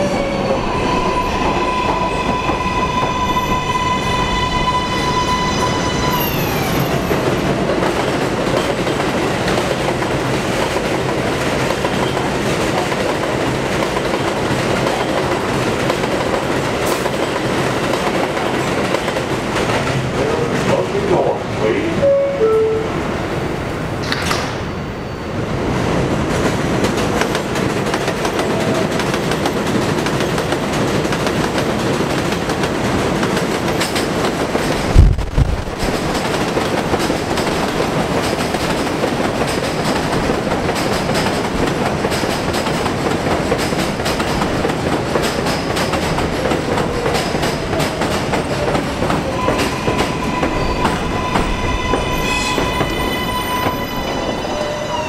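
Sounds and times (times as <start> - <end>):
train wheels rumbling over rails: 0.0 - 21.7, 23.2 - 55.0.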